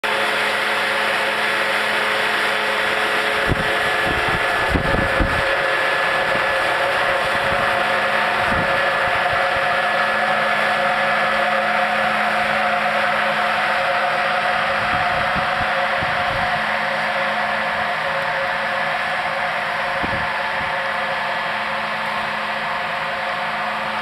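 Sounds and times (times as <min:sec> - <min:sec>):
snow machine blower hum: 0:00.0 - 0:24.0.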